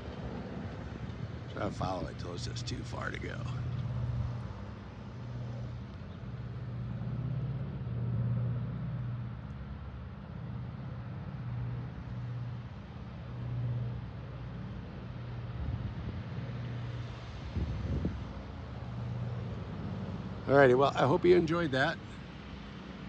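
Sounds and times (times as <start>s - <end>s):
distant propeller plane engines: 0.0s - 23.0s.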